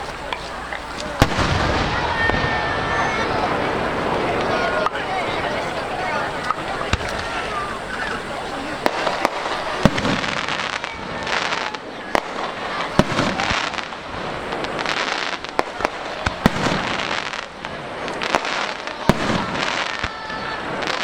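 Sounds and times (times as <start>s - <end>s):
firework bangs: 0.0s - 21.0s.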